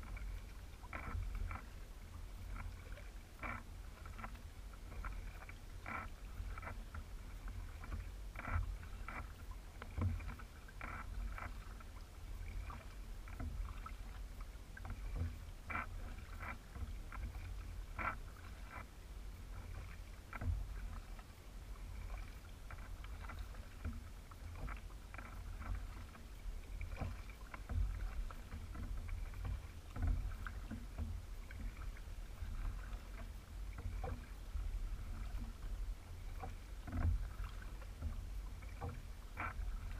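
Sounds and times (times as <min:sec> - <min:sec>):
kayak paddle dipping in water: 0:00.0 - 0:39.9
small water splashes and drips: 0:00.0 - 0:39.9.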